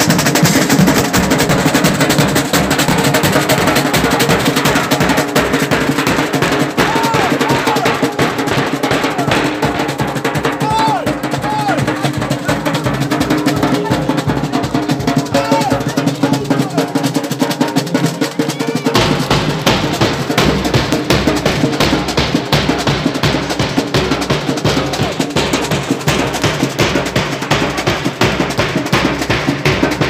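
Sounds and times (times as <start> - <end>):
deep bass drum beats: 0.0 - 30.0
street drum band playing: 0.0 - 30.0.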